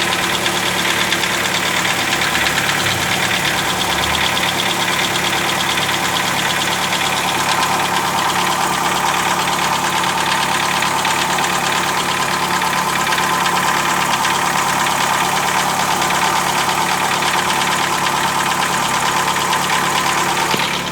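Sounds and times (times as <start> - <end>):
fast even ticking: 0.0 - 17.4
car engine idling: 0.0 - 20.9.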